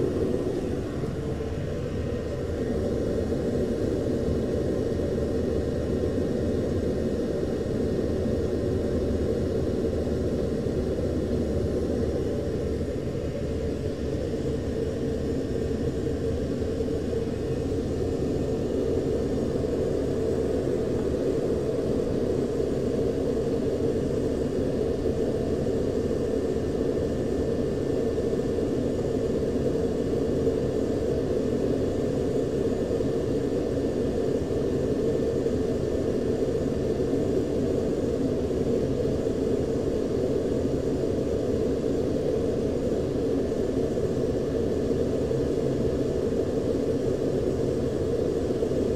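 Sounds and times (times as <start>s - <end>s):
cockpit engine and airflow rumble: 0.0s - 48.9s.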